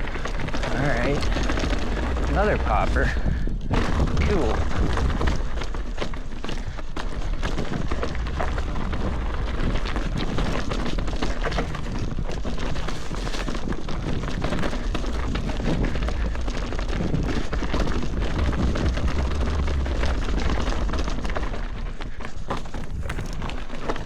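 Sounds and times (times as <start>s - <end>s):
bike rattling: 0.0s - 24.0s
tyres rolling over dirt and rocks: 0.0s - 24.0s
wind rumbling on microphone: 0.0s - 24.0s.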